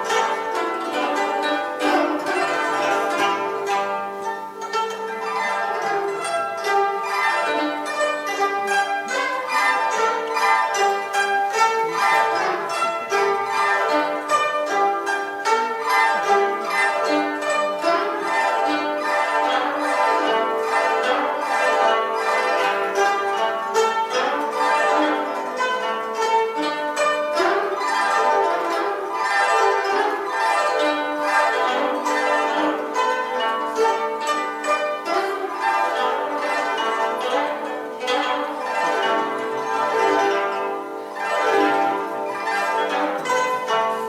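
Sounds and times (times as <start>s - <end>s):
plucked zithers playing melody: 0.0s - 44.0s.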